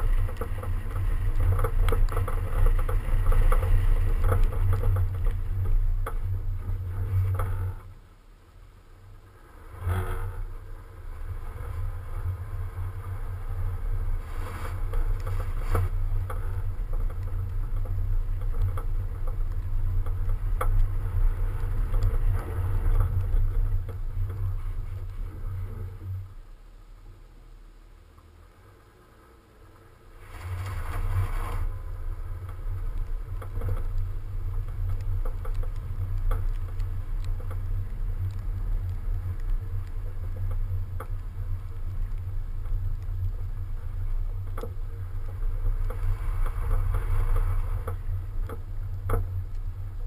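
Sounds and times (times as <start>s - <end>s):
tyres rumbling on snow: 0.0s - 50.0s.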